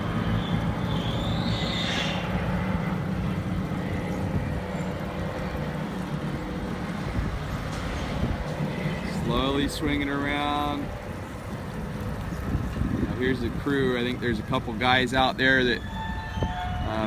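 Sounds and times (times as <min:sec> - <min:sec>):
heavy machinery engine rumble: 0:00.0 - 0:17.0.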